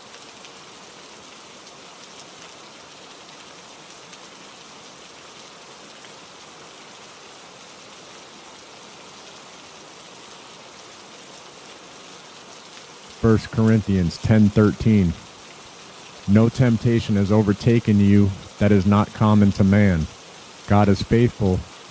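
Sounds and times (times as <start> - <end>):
rain hissing on a surface: 0.0 - 21.9.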